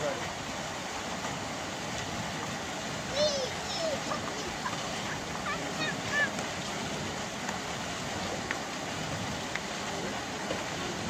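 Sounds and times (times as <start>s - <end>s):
water splashing in pool: 0.0s - 11.0s.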